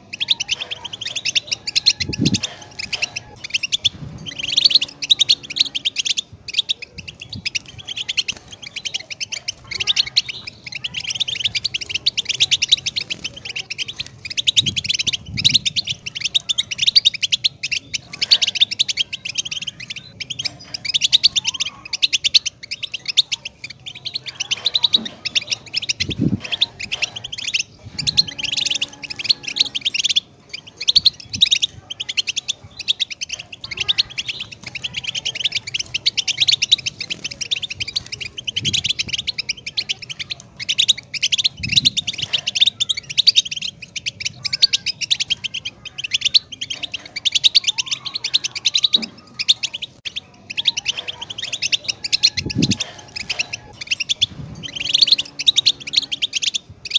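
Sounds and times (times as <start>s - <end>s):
goldfinch twittering and chirping: 0.0s - 56.9s.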